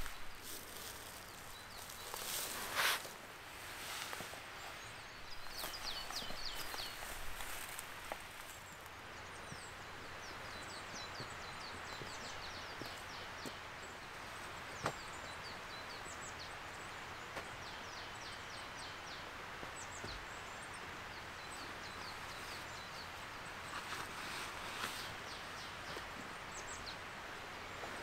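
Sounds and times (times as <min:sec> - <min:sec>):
small birds chirping: 0:00.0 - 0:28.0
steady outdoor hiss: 0:00.0 - 0:28.0.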